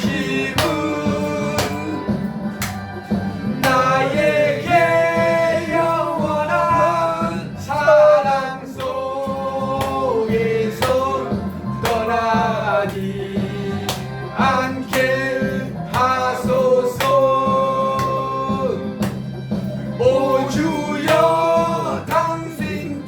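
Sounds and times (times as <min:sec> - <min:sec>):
man singing worship song: 0:00.0 - 0:02.3, 0:03.6 - 0:19.0, 0:20.0 - 0:23.0
musical accompaniment: 0:00.0 - 0:23.0.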